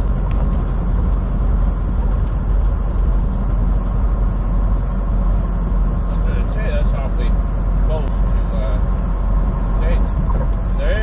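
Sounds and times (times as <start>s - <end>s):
truck engine and road drone: 0.0s - 11.0s.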